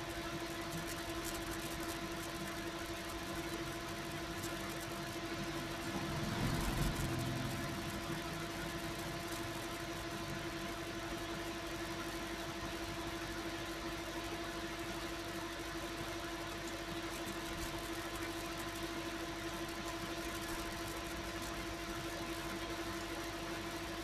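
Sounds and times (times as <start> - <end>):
constant hiss: 0.0 - 24.0
steady hum: 0.0 - 24.0.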